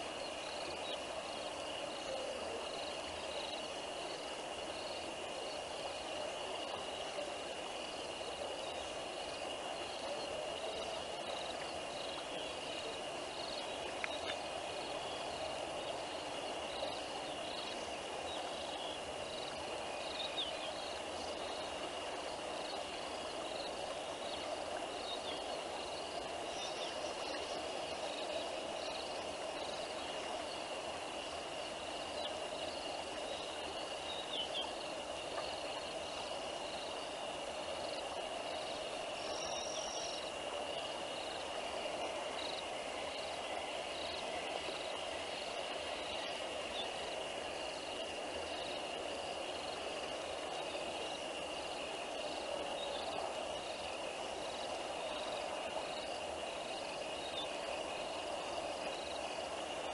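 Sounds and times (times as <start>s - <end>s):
background hiss: 0.0s - 59.9s
cricket chirps: 0.0s - 59.9s
insects trilling: 0.0s - 59.9s.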